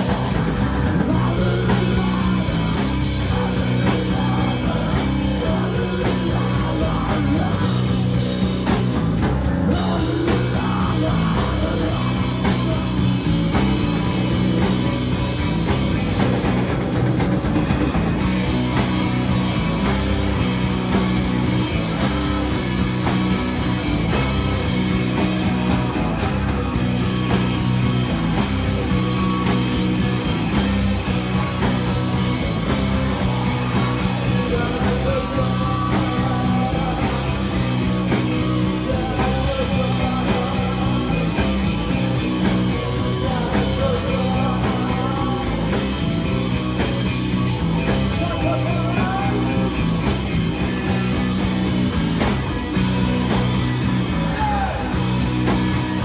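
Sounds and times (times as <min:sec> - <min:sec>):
driving drums and cymbals: 0:00.0 - 0:56.0
electric guitar: 0:00.0 - 0:56.0
heavy bass riff: 0:00.0 - 0:56.0.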